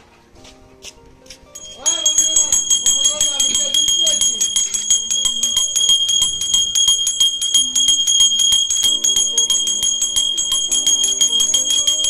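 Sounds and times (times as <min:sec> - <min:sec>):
hand bell rung rapidly: 0:01.6 - 0:12.0.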